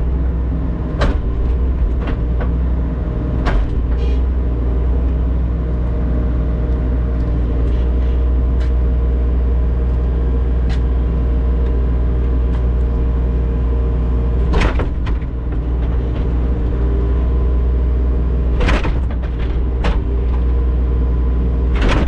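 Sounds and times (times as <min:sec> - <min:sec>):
diesel digger engine running: 0:00.0 - 0:22.0.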